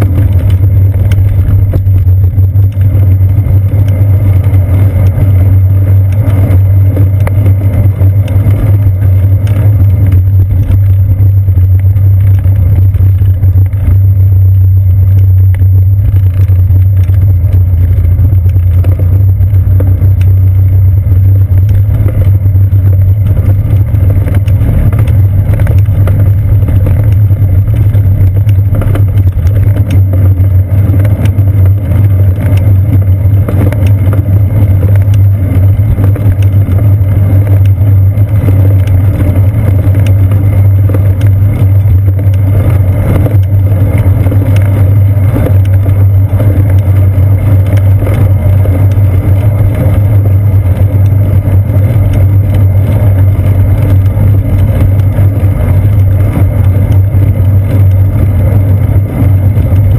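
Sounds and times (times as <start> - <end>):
bicycle rumbling in motion: 0.0 - 59.9.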